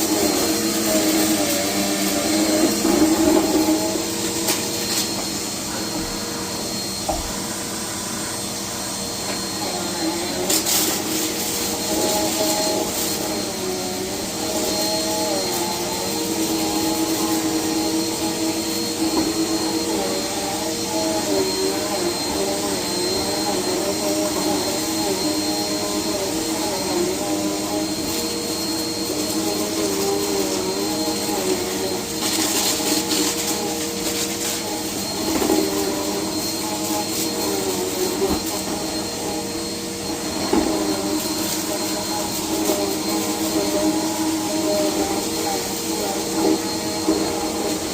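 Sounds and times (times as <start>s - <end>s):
vacuum cleaner hisses: 0.0s - 47.9s
vacuum cleaner running: 0.0s - 47.9s.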